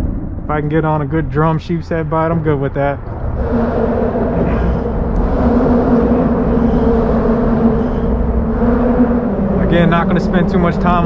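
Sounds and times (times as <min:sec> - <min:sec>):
road traffic rumble overhead: 0:00.0 - 0:11.0.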